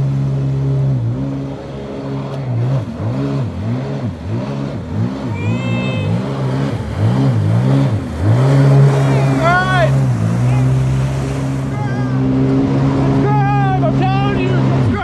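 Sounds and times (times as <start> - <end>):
watercraft engine revving: 0.0 - 15.0.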